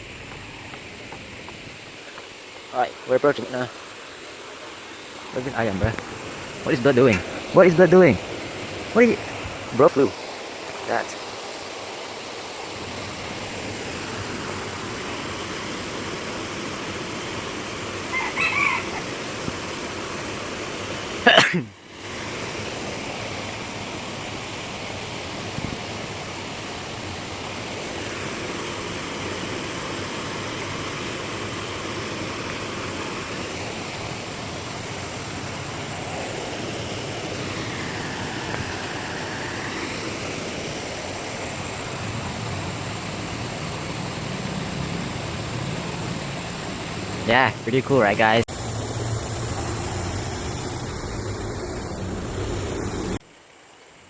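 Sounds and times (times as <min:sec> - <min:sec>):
steady rushing noise: 0:00.0 - 0:18.0, 0:21.9 - 0:53.2.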